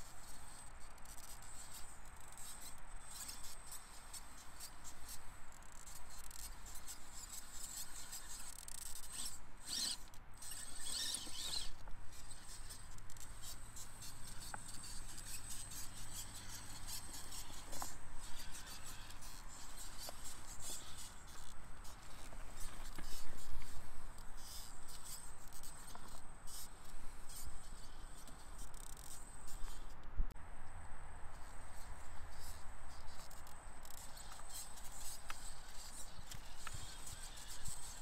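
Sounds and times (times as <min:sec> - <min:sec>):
electric motor and gear whine: 0:00.0 - 0:38.0.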